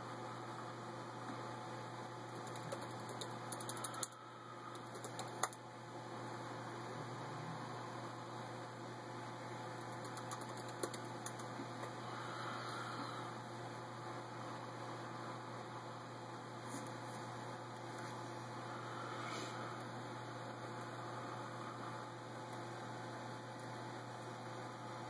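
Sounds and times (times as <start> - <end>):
low electrical hum and hiss: 0.0 - 25.0.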